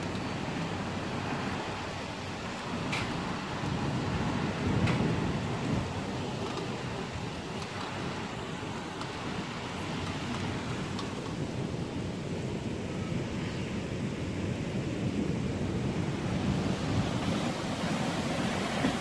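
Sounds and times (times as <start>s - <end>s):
rain hissing: 0.0s - 19.0s
thunder rumbling: 0.0s - 19.0s.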